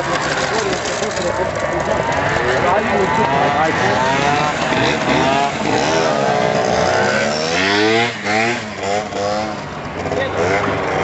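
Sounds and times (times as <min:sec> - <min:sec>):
motor scooter engine revving: 0:00.0 - 0:11.0.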